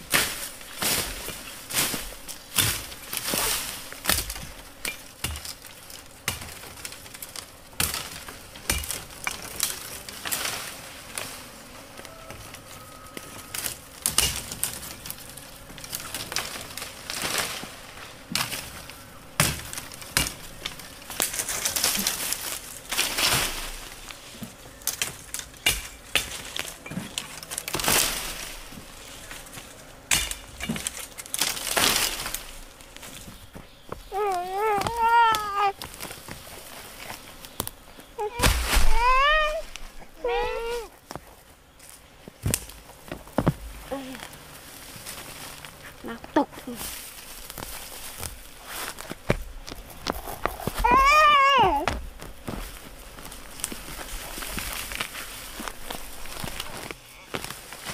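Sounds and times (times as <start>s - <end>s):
brush rustling: 0.0s - 57.9s
dry stalks cracking and snapping: 0.0s - 57.9s.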